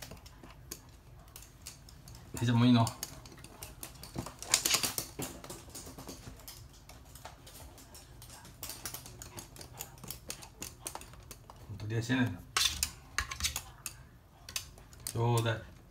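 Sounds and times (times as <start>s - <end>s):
dog claws clicking on hard floor: 0.0s - 15.8s.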